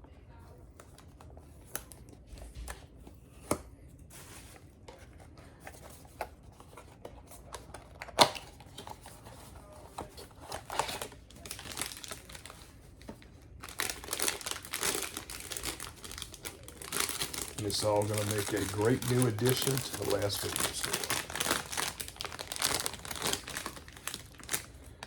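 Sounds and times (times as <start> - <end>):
packaging rustling: 4.1 - 25.0
packaging crinkling: 4.9 - 25.0.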